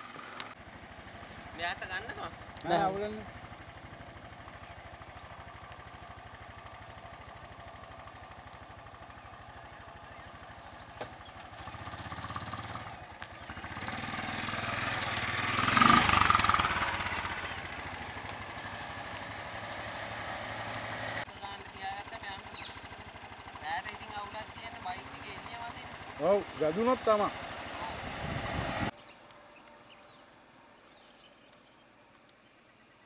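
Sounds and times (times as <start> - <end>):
small engine idling and revving: 0.0 - 29.0.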